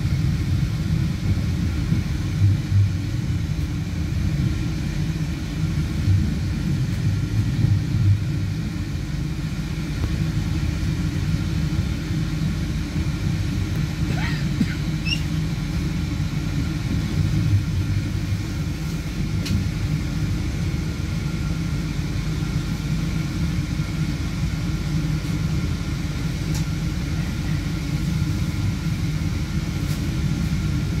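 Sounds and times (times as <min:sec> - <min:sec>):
train rumbling on track: 0:00.0 - 0:31.0.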